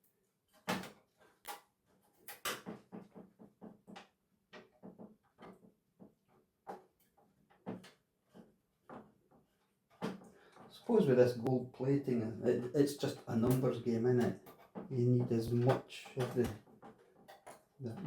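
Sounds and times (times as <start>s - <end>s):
small parts clicking and knocking: 0.5s - 10.9s, 13.0s - 18.0s.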